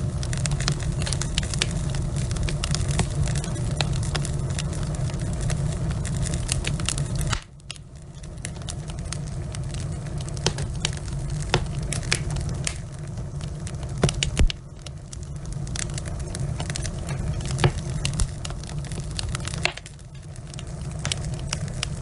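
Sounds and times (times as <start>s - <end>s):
logs crackling and popping: 0.0s - 22.0s
low rumble of flame: 0.0s - 22.0s.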